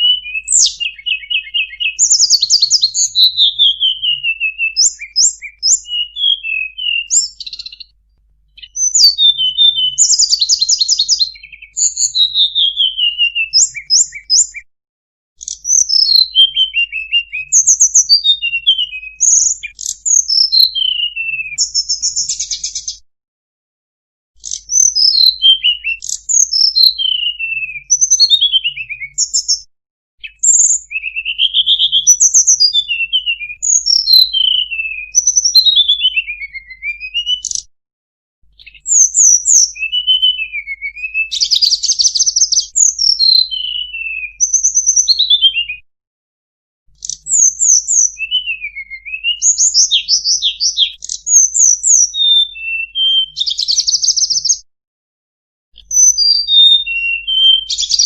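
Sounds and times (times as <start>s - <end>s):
bird singing whistled notes and trills: 0.0s - 14.7s, 15.4s - 23.0s, 24.4s - 37.7s, 38.5s - 45.9s, 46.9s - 54.7s, 55.8s - 58.0s.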